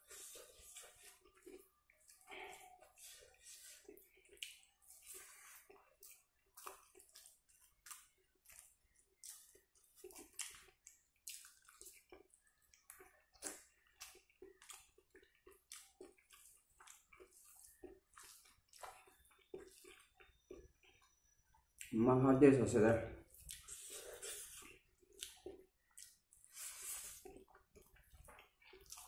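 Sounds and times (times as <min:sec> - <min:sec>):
wet chewing and lip-smacking: 0:00.0 - 0:21.9, 0:23.3 - 0:29.0.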